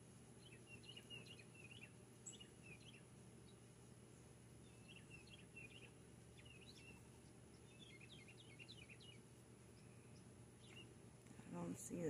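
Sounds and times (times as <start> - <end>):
low steady hum: 0.0 - 12.0
small birds chirping: 0.0 - 12.0.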